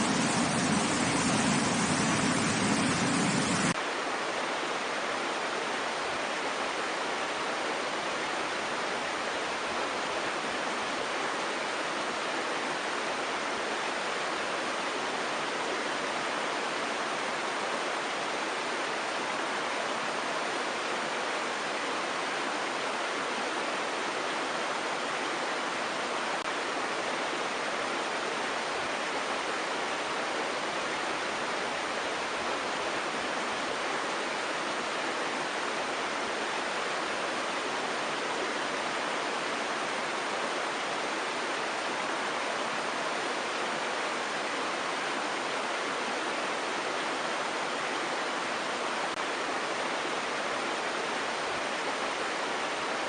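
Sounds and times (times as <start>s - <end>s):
water flowing over rocks: 0.0s - 53.0s.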